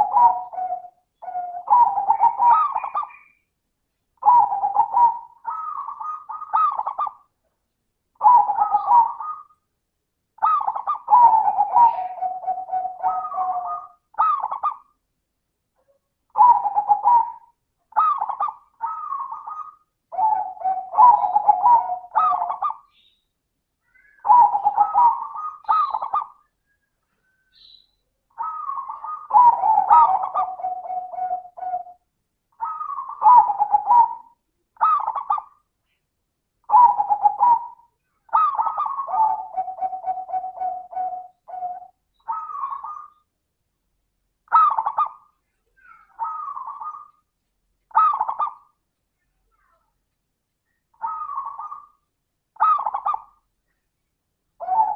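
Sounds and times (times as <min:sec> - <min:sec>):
dove cooing: 0:00.0 - 0:03.4, 0:04.2 - 0:07.3, 0:08.2 - 0:09.6, 0:10.4 - 0:15.0, 0:15.8 - 0:22.9, 0:23.9 - 0:32.0, 0:32.6 - 0:35.7, 0:36.6 - 0:43.2, 0:44.5 - 0:47.2, 0:47.9 - 0:48.8, 0:50.9 - 0:53.4, 0:54.6 - 0:54.9.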